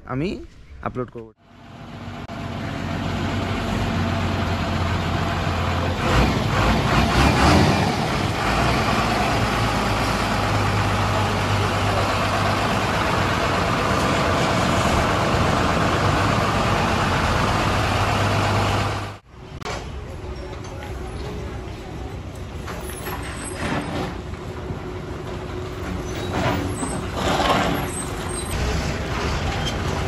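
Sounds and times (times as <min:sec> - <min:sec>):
heavy vehicle engine running: 0:01.4 - 0:30.0.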